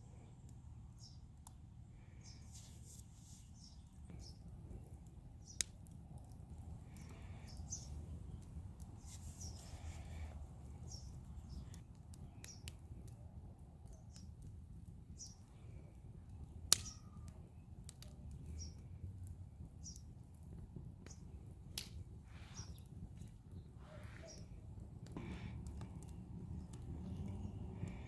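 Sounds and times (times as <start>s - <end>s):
faint birds chirping: 0.0s - 28.0s
fire crackling and popping: 0.2s - 28.0s.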